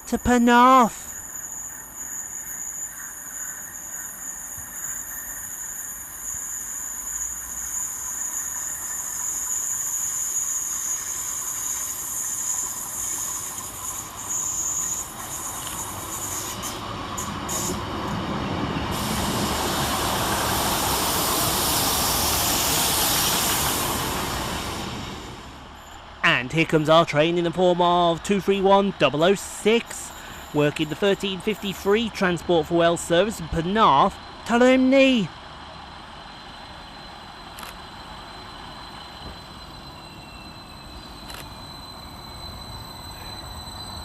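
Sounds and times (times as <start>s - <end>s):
diesel train arriving: 0.0s - 44.0s.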